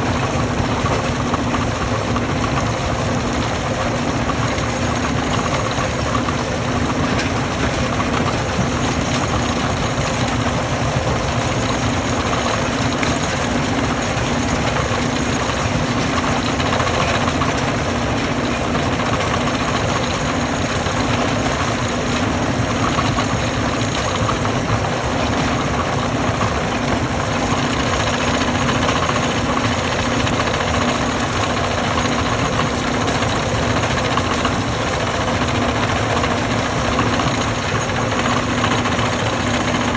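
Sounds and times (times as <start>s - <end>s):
stone crusher rattling and grinding: 0.0s - 39.9s.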